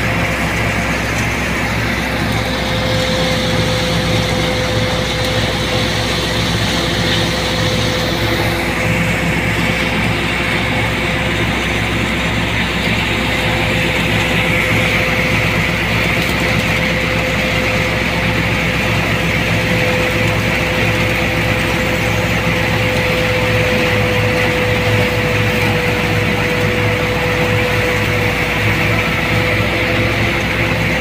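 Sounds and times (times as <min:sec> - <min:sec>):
crop thresher humming: 0:00.0 - 0:31.0.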